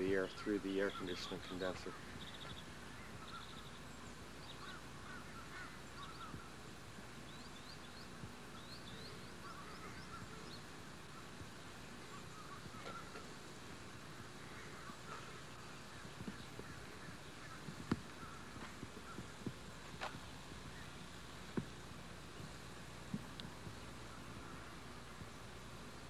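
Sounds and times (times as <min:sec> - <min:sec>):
birds chirping faintly: 0:00.0 - 0:26.0
outdoor background noise: 0:00.0 - 0:26.0
tape hiss: 0:00.0 - 0:26.0.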